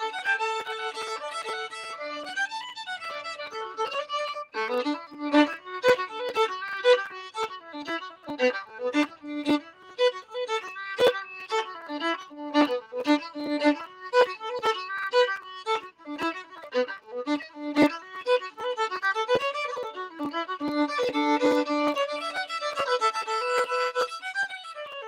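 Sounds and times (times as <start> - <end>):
solo fiddle playing: 0.0 - 25.0.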